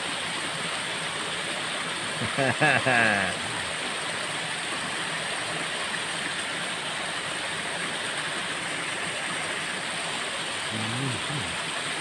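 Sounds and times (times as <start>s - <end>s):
water rushing over waterfall: 0.0s - 12.0s.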